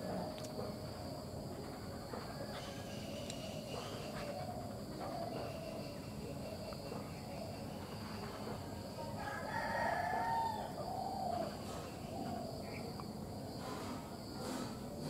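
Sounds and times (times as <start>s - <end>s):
insect buzz: 0.0s - 15.0s.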